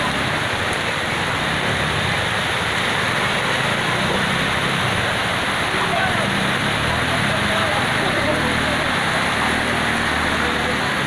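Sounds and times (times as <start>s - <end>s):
floodwater rushing: 0.0s - 11.0s
vehicles splashing through water: 0.0s - 11.0s.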